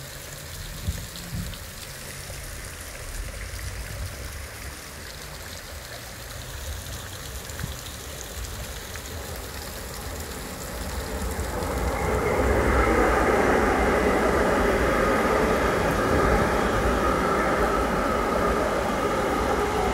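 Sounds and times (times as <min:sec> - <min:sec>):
rain on pavement and cars: 0:00.0 - 0:19.9.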